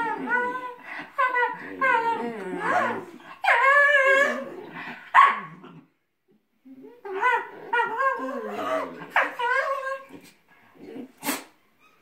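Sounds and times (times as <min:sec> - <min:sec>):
dogs yipping and grumbling: 0:00.0 - 0:06.0, 0:06.6 - 0:12.0.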